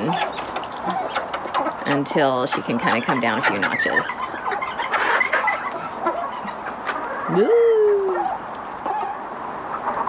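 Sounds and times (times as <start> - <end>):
chickens clucking: 0.0 - 10.0
drawn-out chicken call: 0.0 - 10.0.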